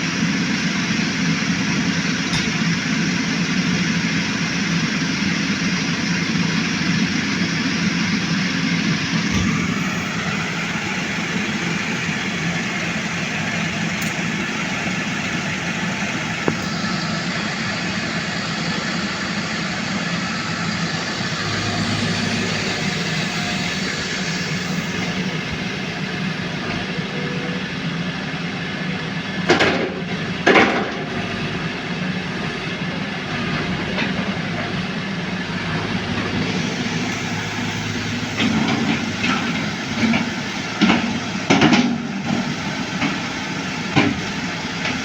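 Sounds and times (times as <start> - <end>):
small engine running: 0.0 - 29.6, 30.4 - 45.0.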